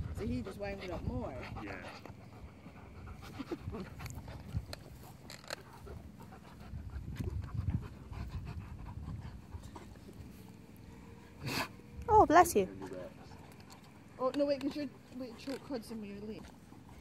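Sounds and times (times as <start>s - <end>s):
dogs rough mouthing noises: 0.0s - 11.8s, 12.7s - 17.0s
dogs panting: 0.0s - 17.0s.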